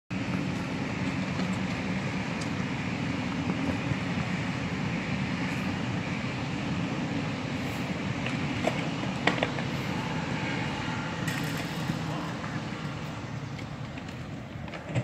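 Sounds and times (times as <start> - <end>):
train passing rumble: 0.1 - 15.0.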